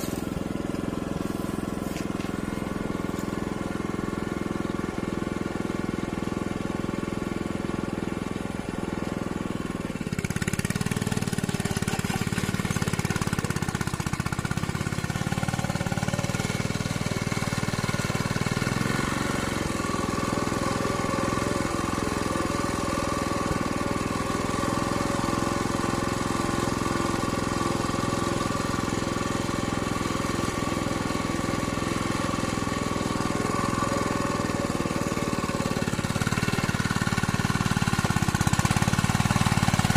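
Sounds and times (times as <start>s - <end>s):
hand tractor diesel engine: 0.0s - 39.9s.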